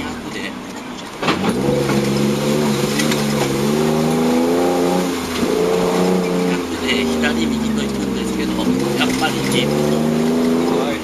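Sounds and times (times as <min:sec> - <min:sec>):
diesel engine pulling under load: 0:00.0 - 0:11.0.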